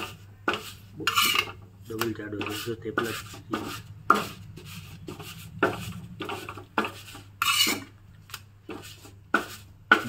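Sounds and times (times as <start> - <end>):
wooden presser scraping on griddle: 0.0 - 8.0, 8.6 - 10.0.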